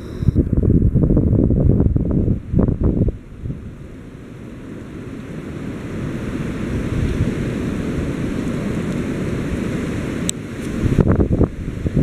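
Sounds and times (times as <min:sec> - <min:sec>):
wind buffeting microphone: 0:00.0 - 0:04.0, 0:05.3 - 0:12.0
wind rushing through branches: 0:00.0 - 0:12.0.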